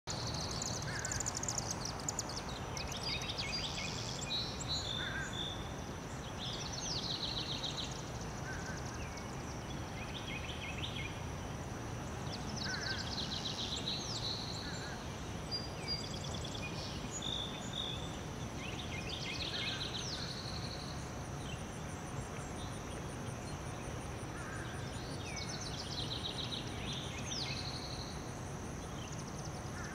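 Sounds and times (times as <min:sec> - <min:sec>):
low even hiss: 0:00.1 - 0:29.9
songbirds singing: 0:00.1 - 0:29.9.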